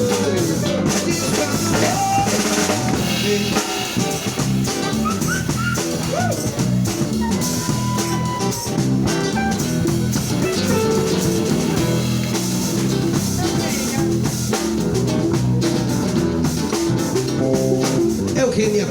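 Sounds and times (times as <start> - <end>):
drum kit with rimshots: 0.0 - 18.9
electric bass: 0.0 - 18.9
guitar: 0.0 - 18.9.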